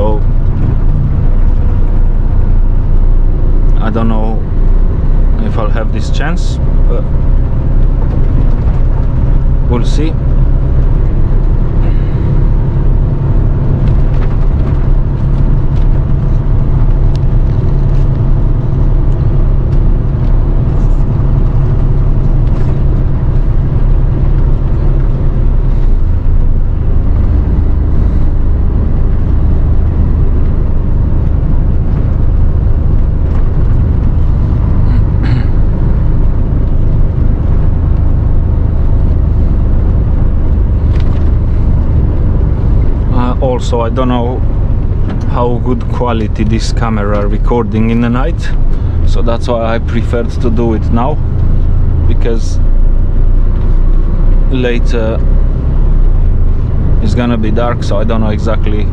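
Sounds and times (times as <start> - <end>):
diesel lorry engine running: 0.0 - 58.9
road and tyre noise: 0.0 - 58.9.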